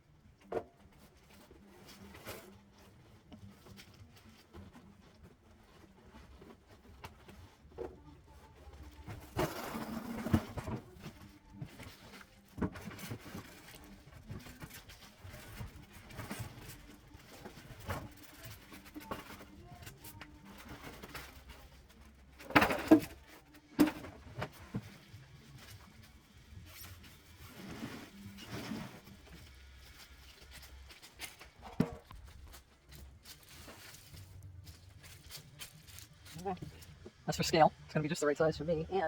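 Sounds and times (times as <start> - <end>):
rustling and scraping: 0.0 - 39.0.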